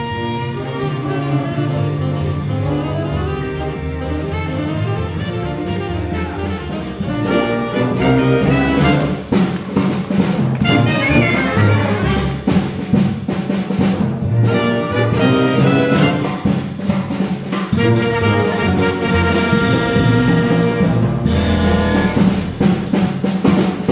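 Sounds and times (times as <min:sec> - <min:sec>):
jazz band playing: 0:00.0 - 0:23.9.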